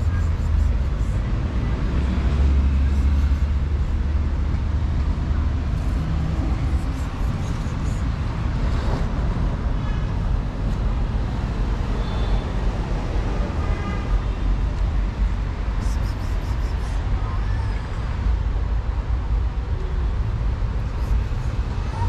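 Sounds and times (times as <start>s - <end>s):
low rumble of road traffic: 0.0s - 22.0s.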